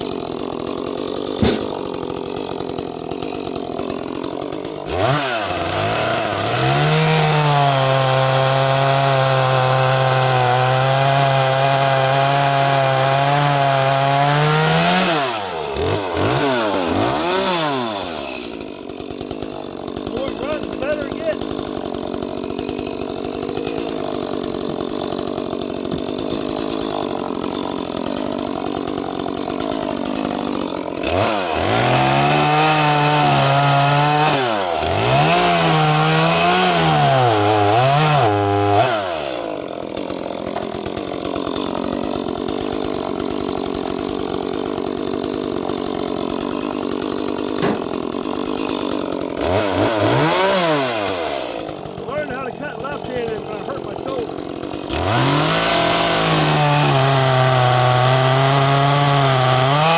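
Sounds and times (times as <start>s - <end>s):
chainsaw idling and cutting wood: 0.0s - 59.9s.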